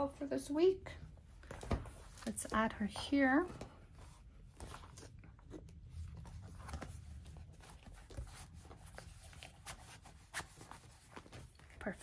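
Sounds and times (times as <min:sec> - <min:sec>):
paper pages rustling: 0:01.4 - 0:12.0.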